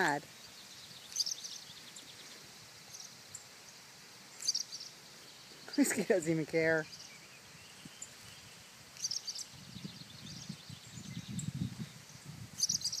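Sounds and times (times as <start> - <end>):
birds chirping alarm calls: 0.0 - 13.0.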